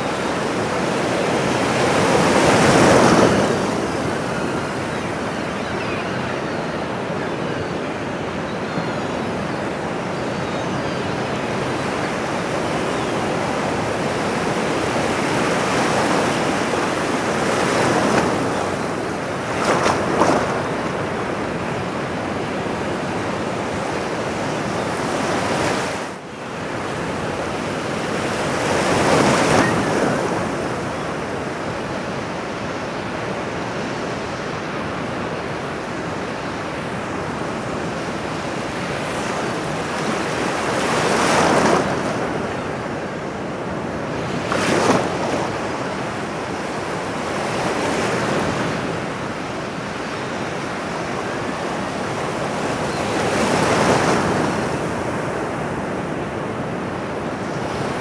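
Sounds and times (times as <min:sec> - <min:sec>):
ocean waves: 0:09.2 - 0:58.0.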